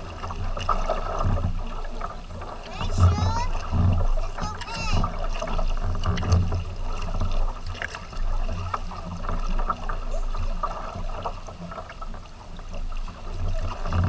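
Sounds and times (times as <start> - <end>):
paddle splashes: 0.0 - 14.0
water sloshing along kayak hull: 0.0 - 14.0.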